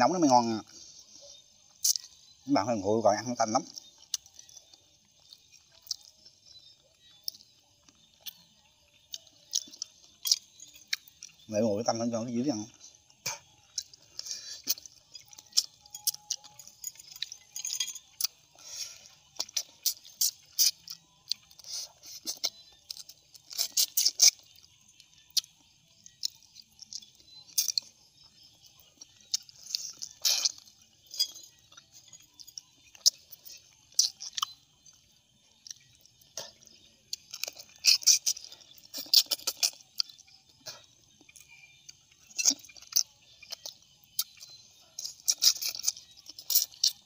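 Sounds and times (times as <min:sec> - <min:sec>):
man chewing wetly: 0:00.6 - 0:02.4, 0:03.2 - 0:47.0.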